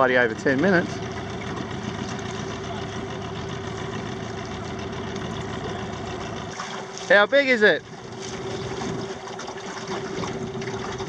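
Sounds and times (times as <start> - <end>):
outboard motor idling: 0.0 - 11.0
wind: 0.0 - 11.0
water washing: 0.6 - 11.0.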